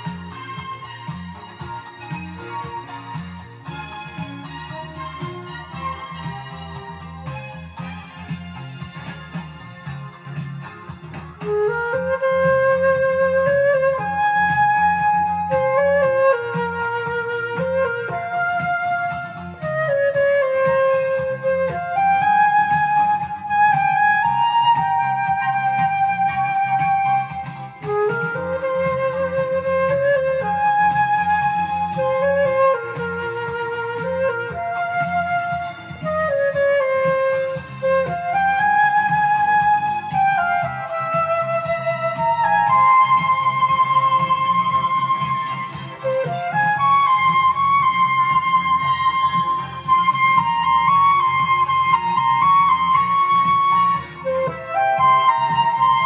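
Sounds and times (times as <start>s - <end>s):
backing track with steady beat: 0.0s - 56.0s
flute playing slow melody: 0.0s - 56.0s.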